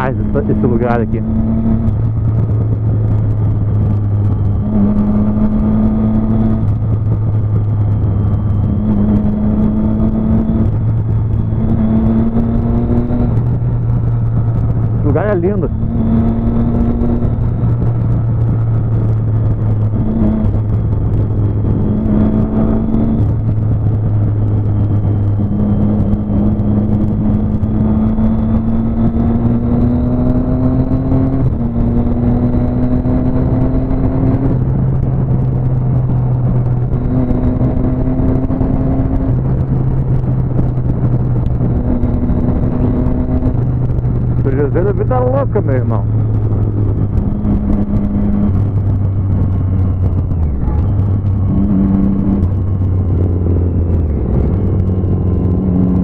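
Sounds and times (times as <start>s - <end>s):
motorcycle engine cruising: 0.0s - 56.0s
wind noise: 0.0s - 56.0s.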